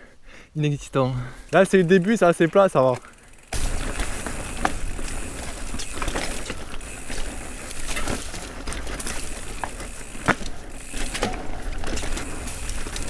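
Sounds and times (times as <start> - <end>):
bike rattling and knocking: 1.6 - 13.0
wind and tyre noise: 1.6 - 13.0.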